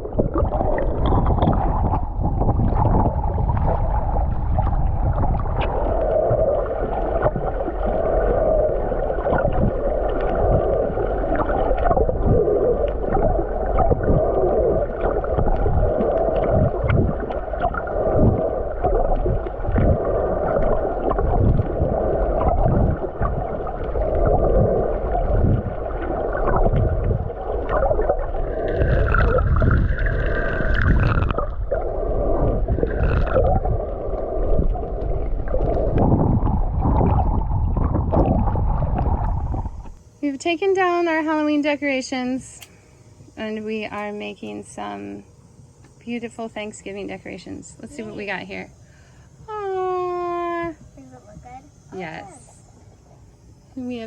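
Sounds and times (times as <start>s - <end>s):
sea water sloshing and gurgling: 0.0s - 40.2s, 50.8s - 54.0s.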